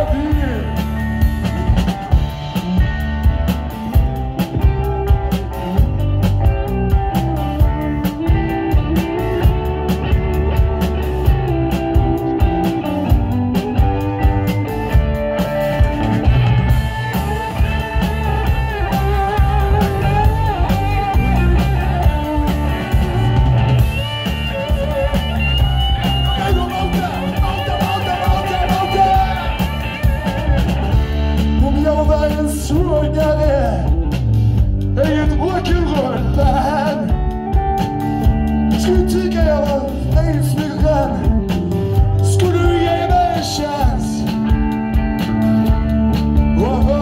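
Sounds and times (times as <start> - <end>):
bass guitar: 0.0 - 47.0
drum kit steady beat: 0.0 - 47.0
electric guitars: 0.0 - 47.0.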